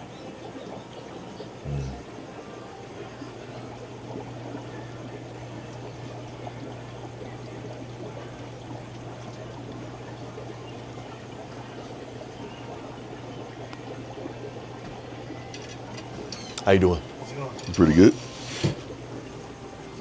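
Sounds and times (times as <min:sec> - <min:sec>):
low electrical pump hum: 0:00.0 - 0:20.0
water trickling and splashing: 0:00.0 - 0:20.0.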